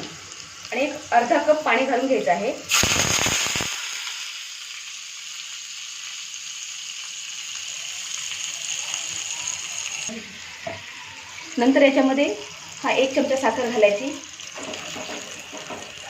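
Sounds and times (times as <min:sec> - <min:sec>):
water sizzling in hot oil: 0:00.0 - 0:16.0.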